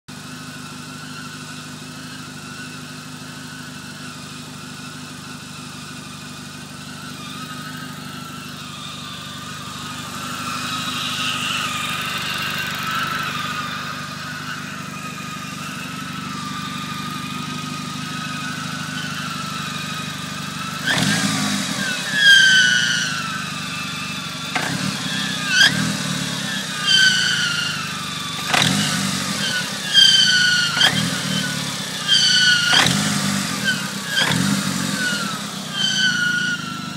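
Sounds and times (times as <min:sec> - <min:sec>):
car engine idling: 0:00.1 - 0:36.9
engine revving: 0:00.1 - 0:36.9.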